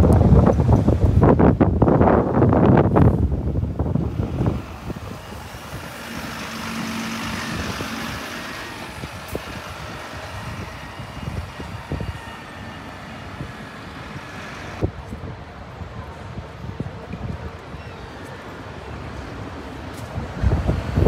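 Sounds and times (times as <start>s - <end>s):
bus engine and tyres passing: 0.0s - 21.0s
wind on microphone: 0.0s - 21.0s.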